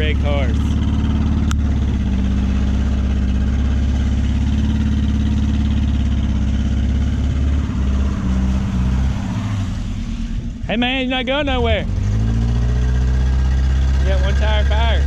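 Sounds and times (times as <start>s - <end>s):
car engine at steady revs: 0.0s - 15.0s.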